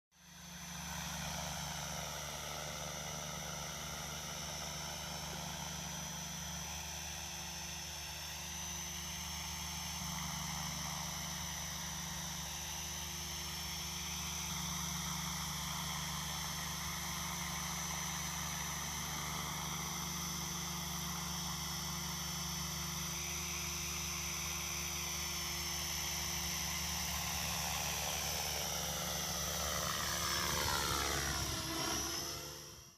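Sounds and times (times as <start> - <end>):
high motor whine: 0.2 - 32.9
model helicopter rotor buzzing: 0.2 - 32.9.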